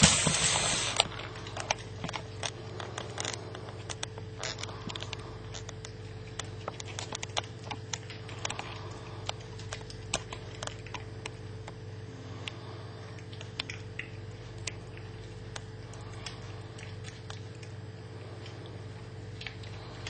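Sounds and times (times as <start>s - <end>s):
cat chewing crunches: 0.0s - 20.0s
low hum: 0.0s - 20.0s.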